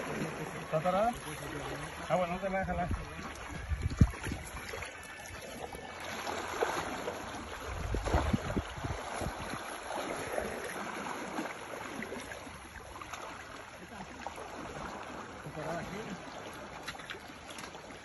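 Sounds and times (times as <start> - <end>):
river current rushing and splashing: 0.0 - 18.0.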